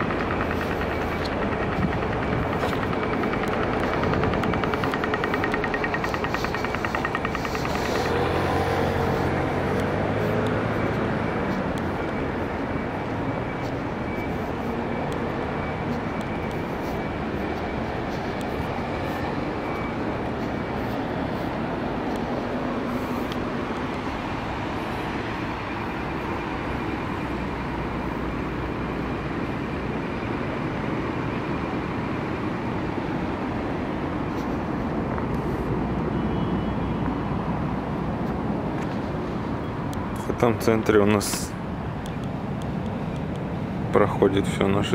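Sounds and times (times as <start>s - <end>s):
city rumble and hiss: 0.0s - 44.9s.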